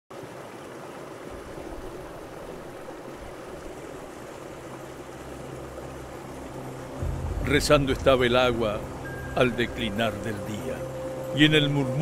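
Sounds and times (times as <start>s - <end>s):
stream water rushing over stones: 0.1s - 12.0s.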